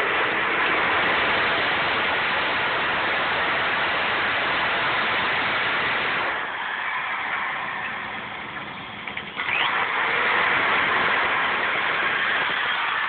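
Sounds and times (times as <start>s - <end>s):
power nibbler cutting sheet metal: 0.0s - 13.0s.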